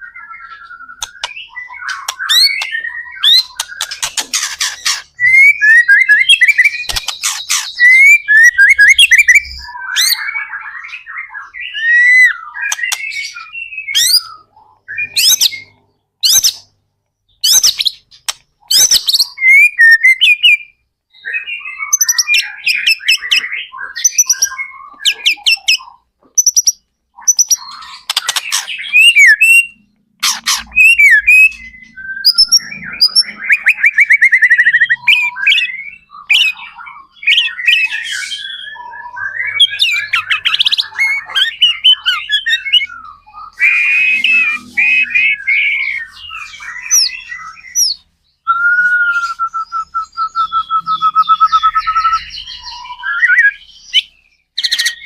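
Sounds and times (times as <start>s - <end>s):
songbird singing with whistles: 0.0s - 55.0s.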